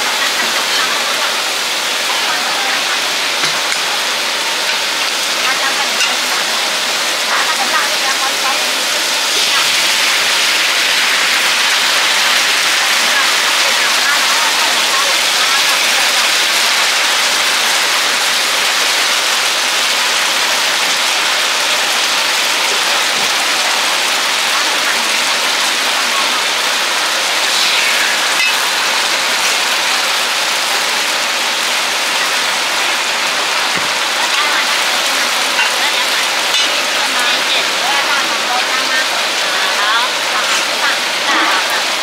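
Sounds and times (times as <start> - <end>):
seafood frying on griddle: 0.1 - 42.0.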